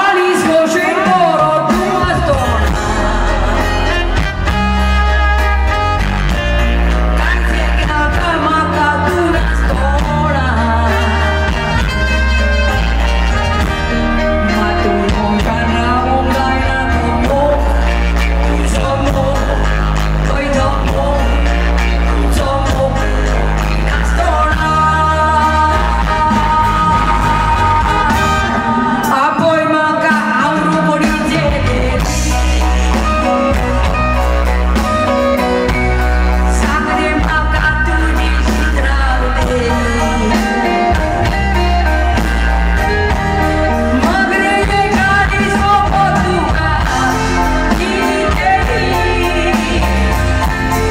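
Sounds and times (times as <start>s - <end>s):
woman singing: 0.0s - 4.8s, 6.8s - 12.8s, 14.0s - 33.9s, 36.2s - 50.9s
acoustic and electric guitars: 0.0s - 50.9s
drums: 0.0s - 50.9s
heavy bass line: 1.5s - 30.4s, 31.0s - 50.9s.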